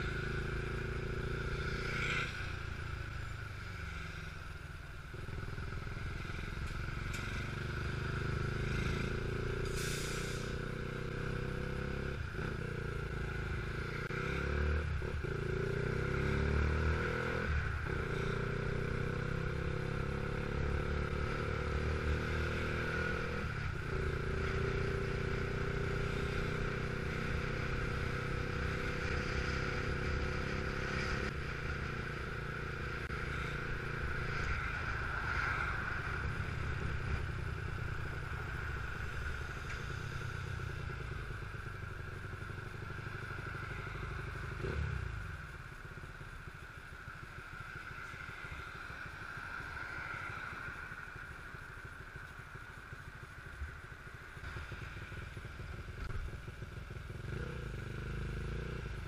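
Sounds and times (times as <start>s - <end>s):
motorcycle engine revving: 0.0s - 59.0s
wind and road noise: 0.0s - 59.0s.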